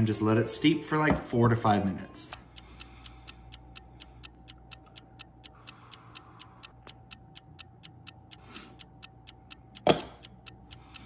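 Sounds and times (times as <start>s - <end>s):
clock ticking: 1.6s - 11.0s.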